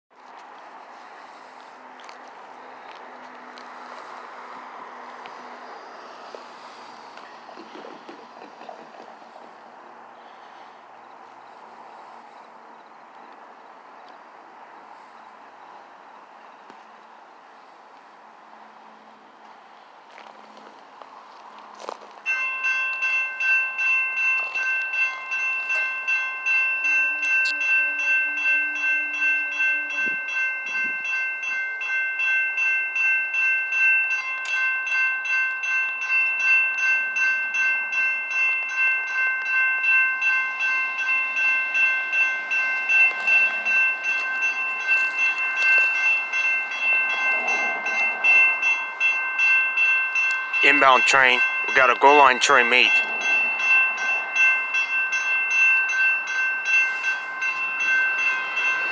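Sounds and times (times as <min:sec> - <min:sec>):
railroad crossing bell ringing: 0:00.7 - 0:58.9.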